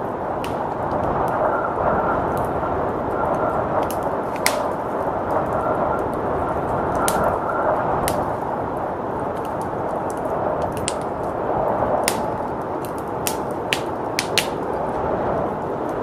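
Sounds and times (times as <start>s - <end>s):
rushing blizzard wind: 0.0s - 16.0s
wood fire crackling and popping: 0.0s - 16.0s.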